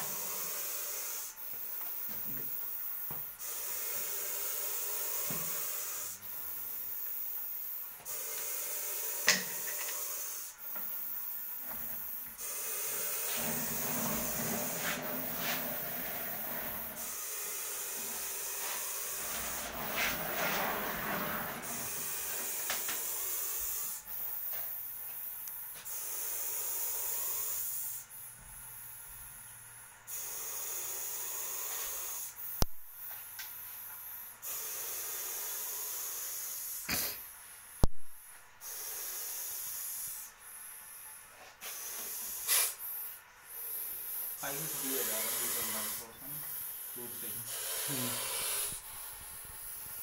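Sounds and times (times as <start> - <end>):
snake hissing: 0.0 - 1.8, 2.5 - 24.1, 25.9 - 28.0, 30.1 - 32.4, 34.4 - 37.2, 38.6 - 41.0, 41.6 - 50.0.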